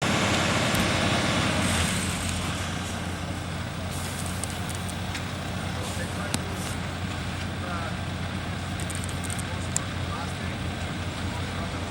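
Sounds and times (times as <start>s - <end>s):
heavy vehicle engine hum: 0.0s - 11.9s
road traffic: 0.0s - 11.9s.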